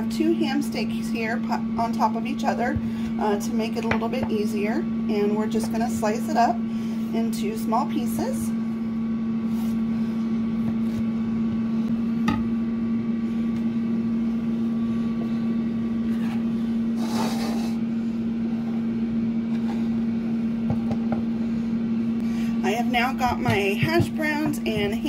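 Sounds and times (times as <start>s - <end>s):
air fryer fan humming: 0.0s - 25.0s.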